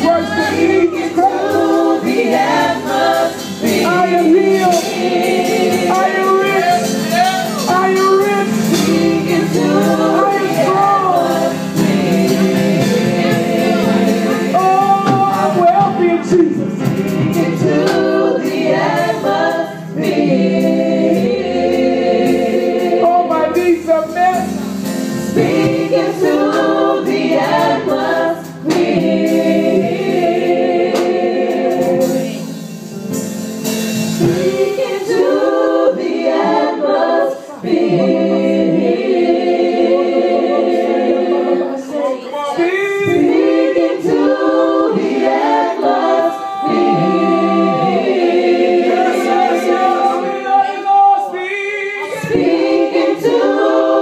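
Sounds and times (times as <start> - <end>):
gospel group singing in harmony: 0.0 - 54.0.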